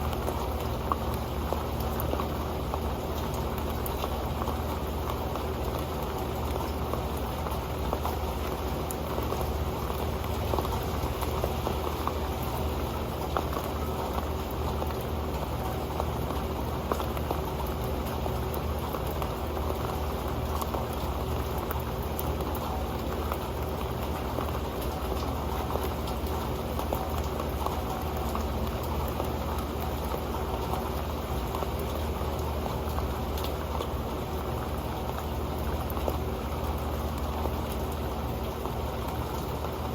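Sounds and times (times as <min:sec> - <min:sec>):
rain dripping on a metal pan: 0:00.0 - 0:39.9.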